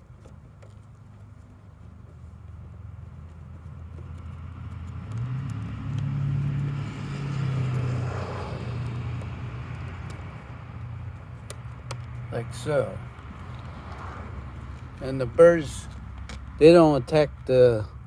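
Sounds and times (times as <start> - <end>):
vehicle passing by: 2.4 - 18.0.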